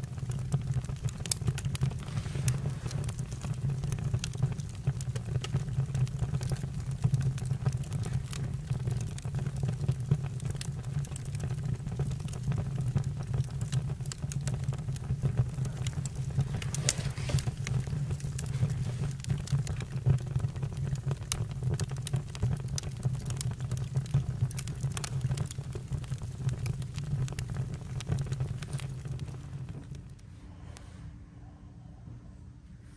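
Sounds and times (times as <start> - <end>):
campfire crackling: 0.0 - 30.2.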